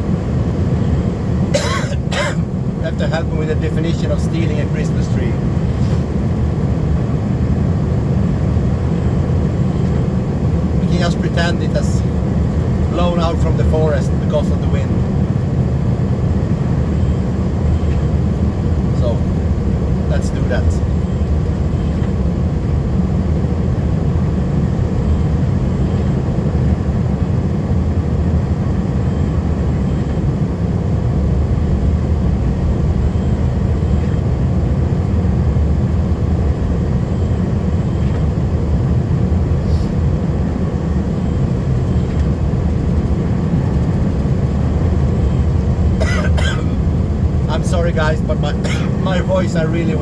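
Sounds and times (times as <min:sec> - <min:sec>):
road noise: 0:00.0 - 0:50.0
vehicle engine drone: 0:00.0 - 0:50.0.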